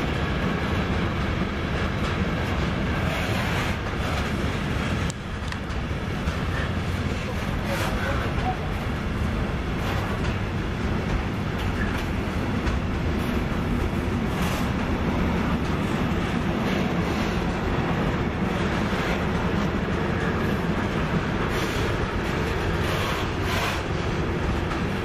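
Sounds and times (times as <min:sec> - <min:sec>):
train wheels rolling on rail: 0:00.0 - 0:25.0
wheels clicking over rail joints: 0:00.0 - 0:25.0.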